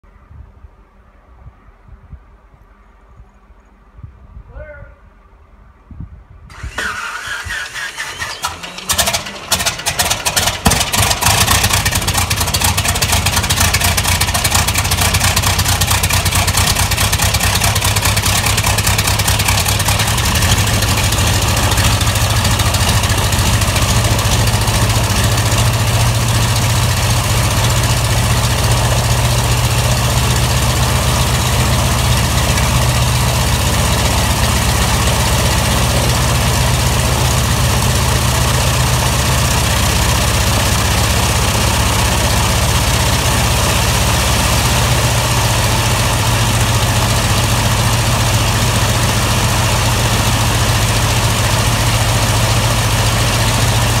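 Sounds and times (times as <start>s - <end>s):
radial engine idling: 6.5s - 54.0s.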